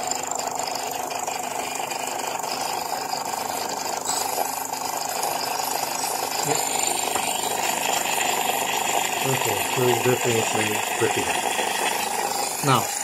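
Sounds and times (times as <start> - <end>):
espresso machine pump buzzing: 0.0 - 13.0.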